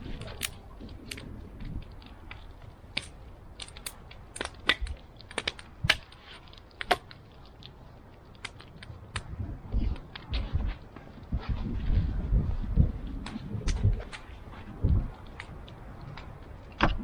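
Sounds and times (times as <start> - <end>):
campfire crackling and popping: 0.0 - 11.2, 13.1 - 17.0.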